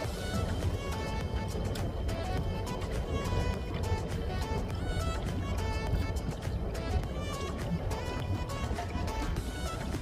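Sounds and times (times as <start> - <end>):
background music with percussive hits: 0.0 - 10.0.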